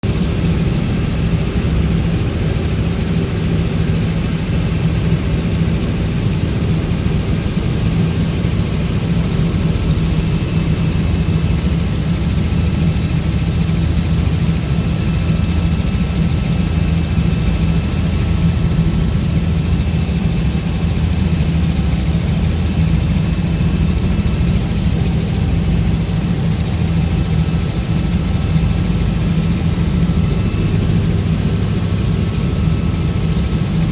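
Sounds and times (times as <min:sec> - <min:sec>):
helicopter turbine and rotors: 0:00.0 - 0:33.9.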